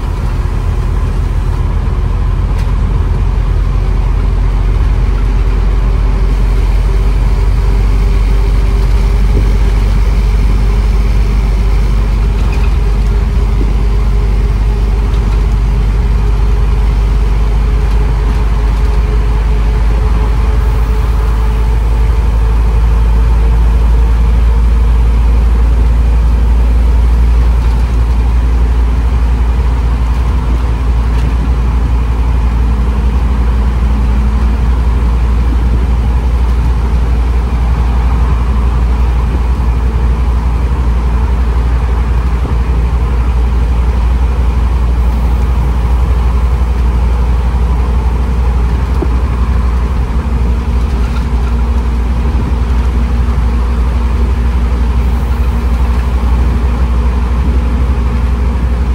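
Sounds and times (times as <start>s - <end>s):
bus diesel engine droning: 0.0s - 58.9s.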